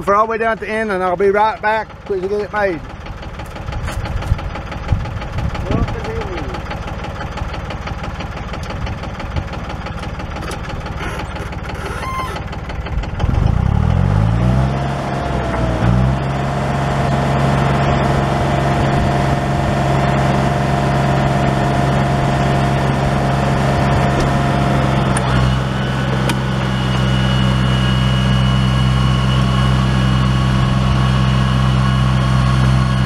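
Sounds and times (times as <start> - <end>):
tractor engine idling and revving: 0.0 - 33.0.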